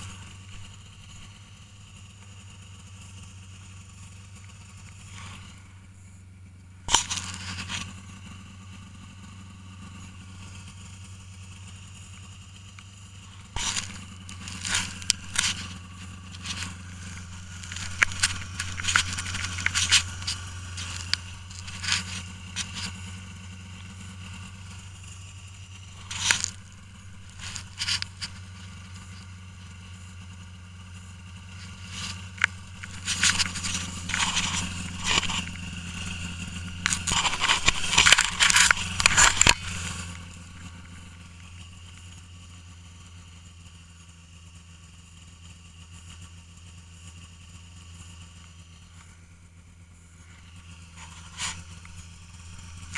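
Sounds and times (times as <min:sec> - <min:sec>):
crunching and scraping snow: 0:00.0 - 0:06.2, 0:06.8 - 0:44.3, 0:46.0 - 0:52.9
snowmobile engine idling: 0:00.0 - 0:52.9.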